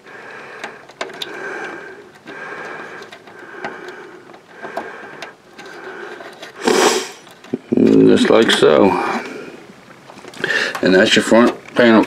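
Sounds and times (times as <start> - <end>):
heavy congested breathing: 0.0 - 7.8, 8.7 - 10.8.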